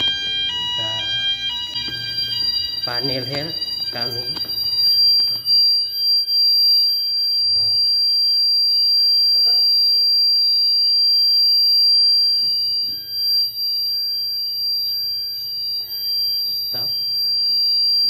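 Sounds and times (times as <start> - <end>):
pulsing lower alarm tone: 0.0 - 18.0
steady high-pitched alarm tone: 0.0 - 18.0.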